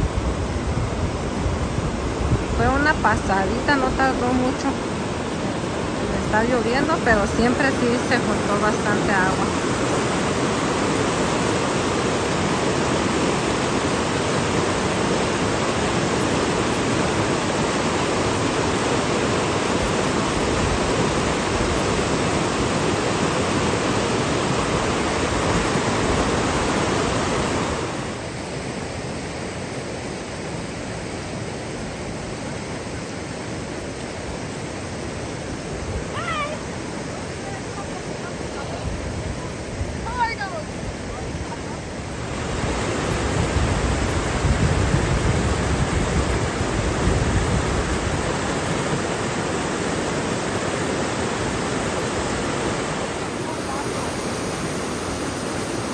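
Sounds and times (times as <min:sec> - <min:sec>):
creek rushing: 0:00.0 - 0:55.9.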